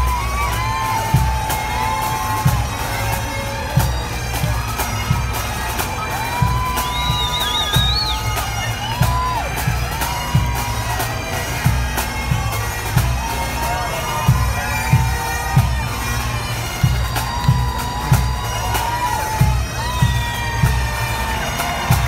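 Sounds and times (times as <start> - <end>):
bagpipe drones: 0.0 - 22.0
bagpipes playing a march: 0.0 - 22.0.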